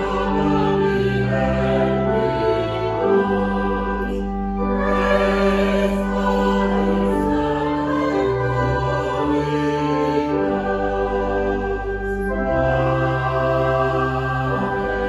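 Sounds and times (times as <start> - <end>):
choir singing slow chords: 0.0 - 15.0
choral accompaniment: 0.0 - 15.0.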